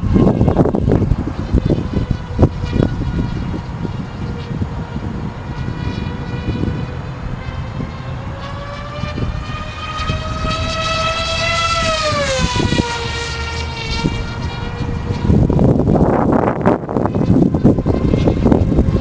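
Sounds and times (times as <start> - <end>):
electric model plane motors whining: 0.0 - 19.0
wind buffeting microphone: 0.0 - 19.0.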